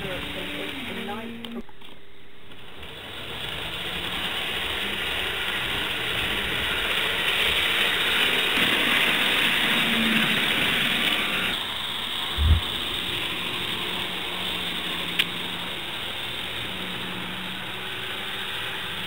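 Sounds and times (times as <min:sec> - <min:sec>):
model train whirring rattle: 0:00.0 - 0:01.6, 0:02.8 - 0:19.0.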